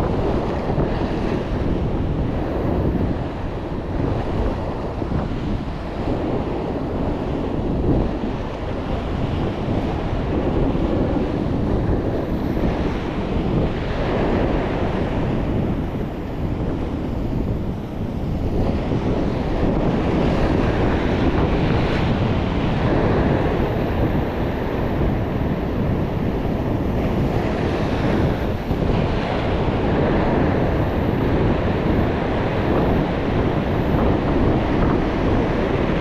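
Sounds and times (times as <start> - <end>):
ocean surf washing over rocks: 0.0 - 36.0
wind buffeting microphone: 0.0 - 36.0.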